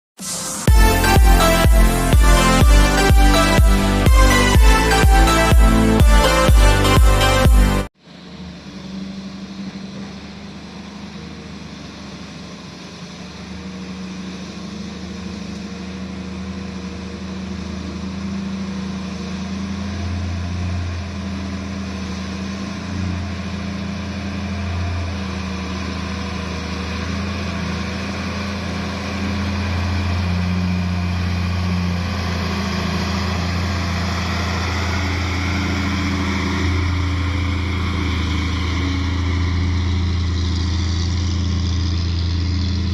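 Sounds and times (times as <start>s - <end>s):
diesel engine running: 0.2s - 42.9s.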